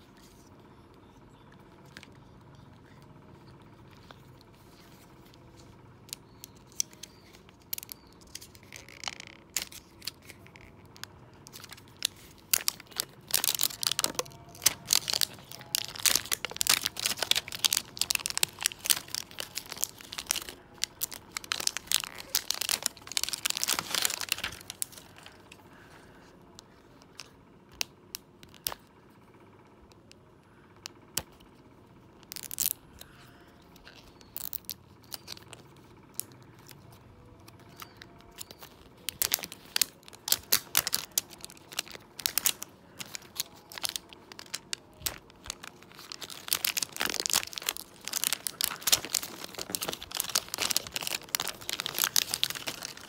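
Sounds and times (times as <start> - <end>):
plastic wrapper crinkling: 0.1 - 28.9, 30.8 - 53.0.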